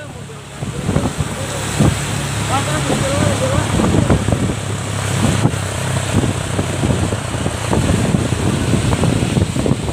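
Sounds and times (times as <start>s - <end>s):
bus engine running: 0.0s - 9.9s
wind crackling on microphone: 0.0s - 9.9s.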